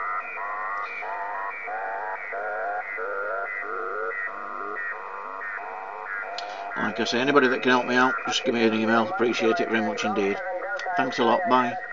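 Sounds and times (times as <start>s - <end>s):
warbling radio interference tone: 0.0s - 11.9s.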